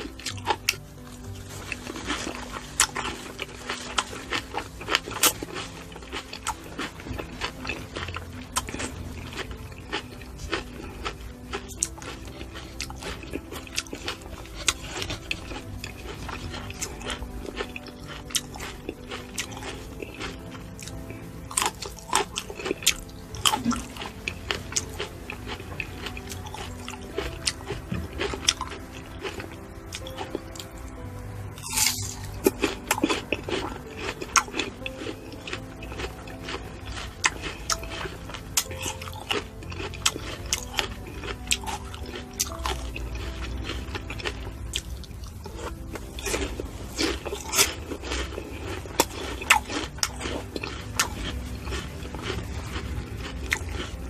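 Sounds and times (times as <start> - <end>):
background music: 0.0 - 54.0
person chewing crunchy fruit: 0.0 - 54.0.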